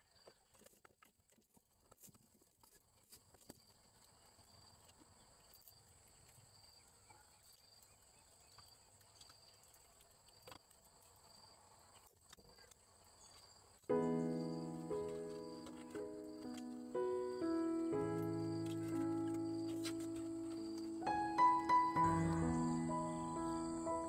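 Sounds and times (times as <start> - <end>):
insects chirping: 3.5 - 24.0.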